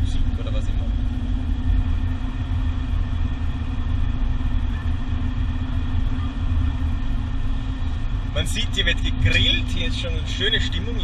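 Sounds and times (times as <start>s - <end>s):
car road noise: 0.0s - 11.0s
engine and tyre rumble: 0.0s - 11.0s.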